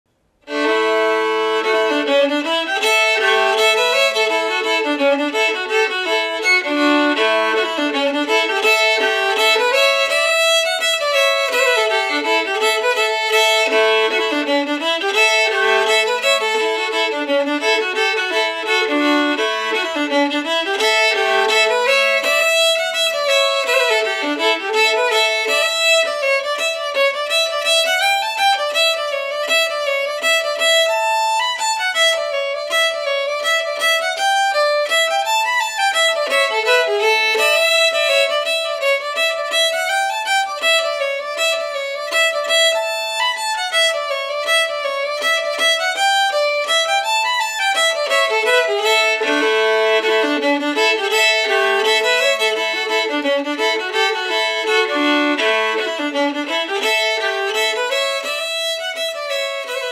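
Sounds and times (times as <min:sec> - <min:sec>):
fiddle playing a tune with drone: 0:00.4 - 0:59.9.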